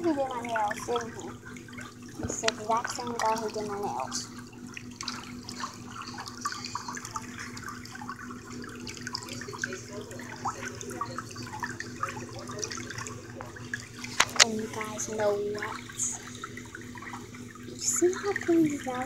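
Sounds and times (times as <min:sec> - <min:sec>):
motor hum: 0:00.0 - 0:19.0
water churning from jet: 0:00.0 - 0:19.0.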